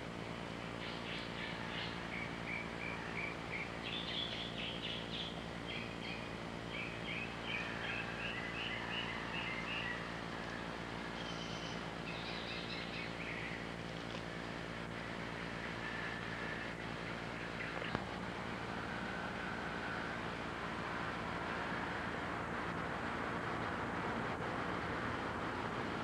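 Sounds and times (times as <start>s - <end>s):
songbirds chirping: 0.0s - 23.0s
low hum and hiss: 0.0s - 26.0s.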